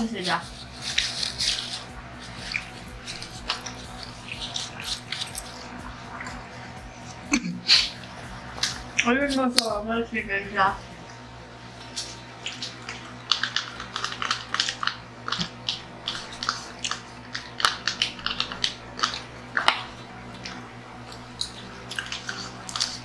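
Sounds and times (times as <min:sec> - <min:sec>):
steady low hum: 0:00.0 - 0:23.0
person chewing: 0:00.5 - 0:09.1, 0:11.0 - 0:23.0.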